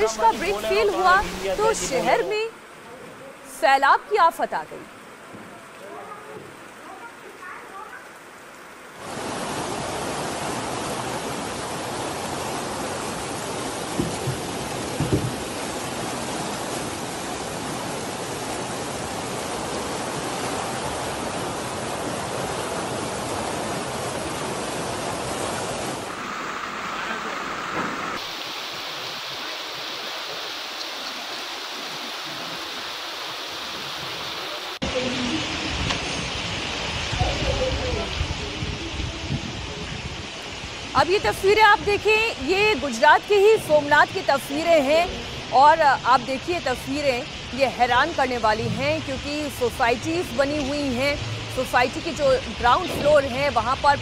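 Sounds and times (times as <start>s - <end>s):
floodwater rushing: 0.0s - 54.0s
heavy rain: 0.0s - 54.0s.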